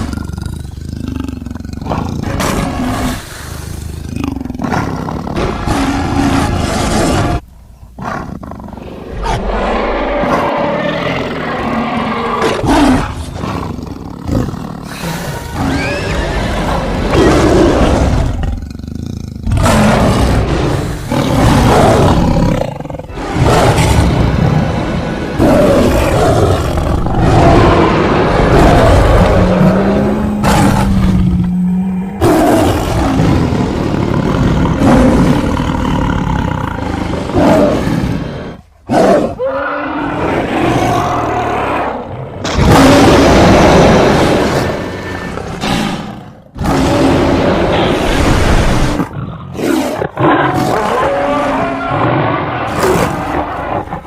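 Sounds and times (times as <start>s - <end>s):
layered creature roars: 8.8s - 18.7s, 19.5s - 38.6s, 39.2s - 54.0s.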